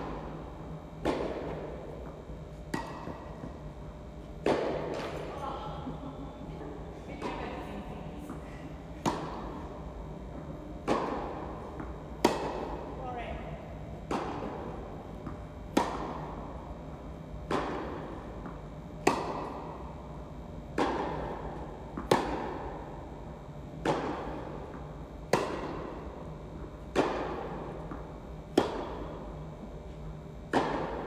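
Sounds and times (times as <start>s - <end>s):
tennis racket hitting ball: 0.0s - 6.0s, 7.2s - 7.6s, 9.0s - 13.0s, 13.9s - 16.7s, 17.4s - 19.9s, 20.7s - 23.1s, 23.7s - 31.0s
tennis ball bouncing: 0.0s - 6.3s, 7.1s - 31.0s.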